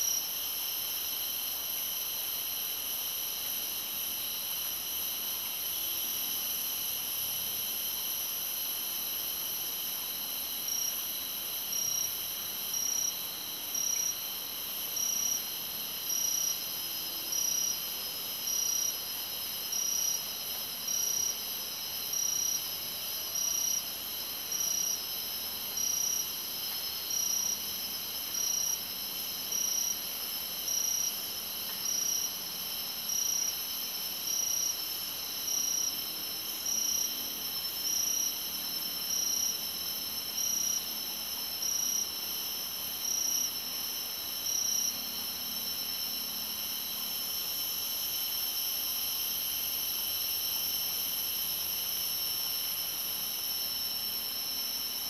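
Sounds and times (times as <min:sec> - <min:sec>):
high-pitched insect drones: 0:00.0 - 0:55.0.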